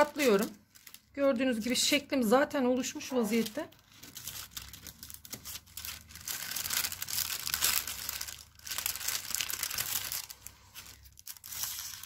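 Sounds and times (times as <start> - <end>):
paper crinkling and rustling: 0.0 - 1.8, 2.8 - 12.0.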